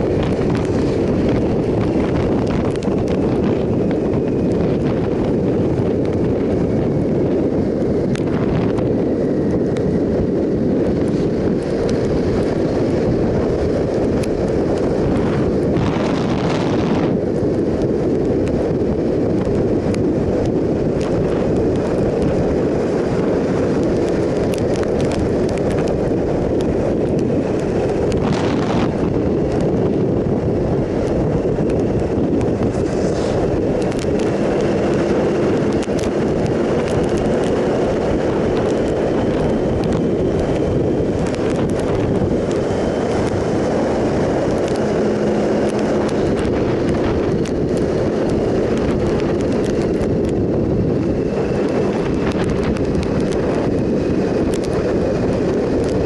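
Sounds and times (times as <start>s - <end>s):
motorcycle engine: 0.0s - 56.0s
tyres on wet road: 0.0s - 56.0s
wind noise on microphone: 0.0s - 56.0s.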